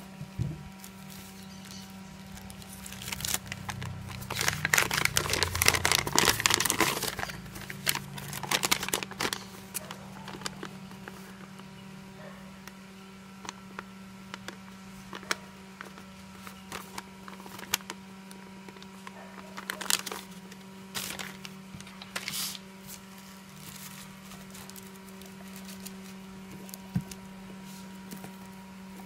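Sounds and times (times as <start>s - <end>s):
steady low hum: 0.0s - 29.0s
paper rustling and crinkling: 0.7s - 11.6s, 13.4s - 29.0s.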